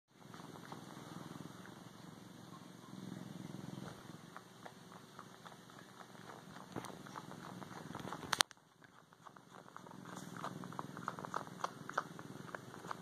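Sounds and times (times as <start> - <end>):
bobcat purring: 0.1 - 13.0.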